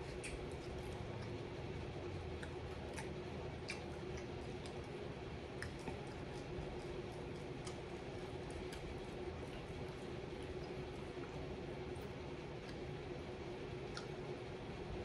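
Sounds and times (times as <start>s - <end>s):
background hum: 0.0s - 15.0s
person chewing with wet smacks: 0.0s - 15.0s.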